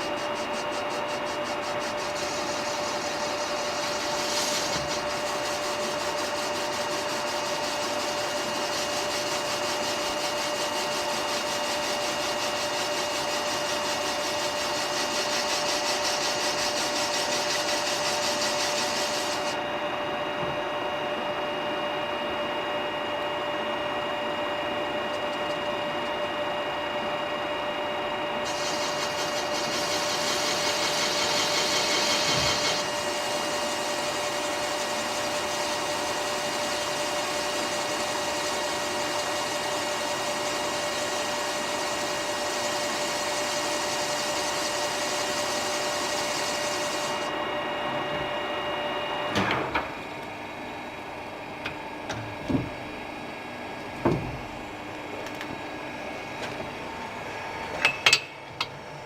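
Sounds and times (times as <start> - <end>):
machine running with whine: 0.0 - 49.3.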